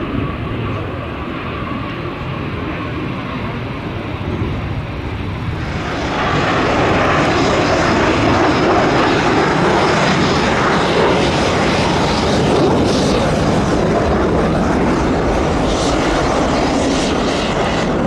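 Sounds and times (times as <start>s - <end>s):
fighter jet engine roar: 0.0s - 18.0s.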